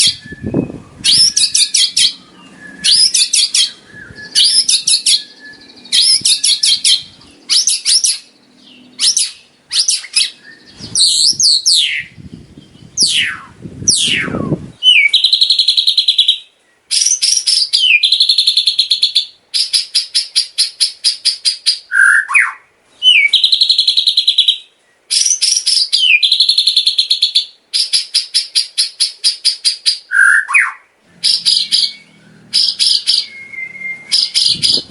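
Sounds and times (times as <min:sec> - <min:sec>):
songbird singing varied phrases: 0:00.0 - 0:34.9.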